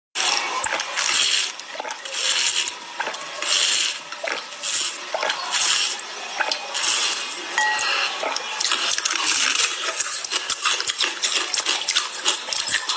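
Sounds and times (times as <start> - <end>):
ice being crunched and chewed: 0.2 - 7.4, 8.0 - 12.9.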